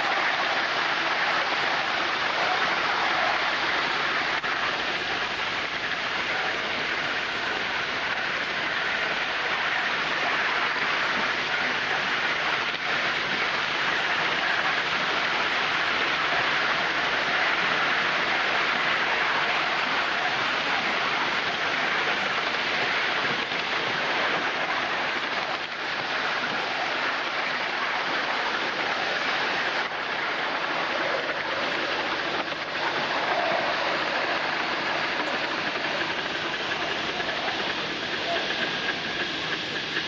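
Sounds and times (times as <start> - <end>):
steam hiss: 0.0 - 40.0
wheels on rails: 0.0 - 40.0.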